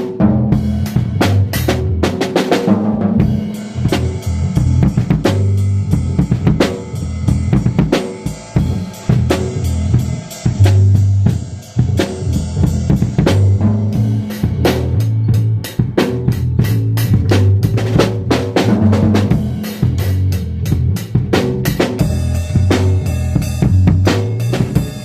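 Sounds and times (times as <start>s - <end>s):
drum kit playing a busy beat: 0.0s - 25.0s
low bass notes: 0.0s - 25.0s.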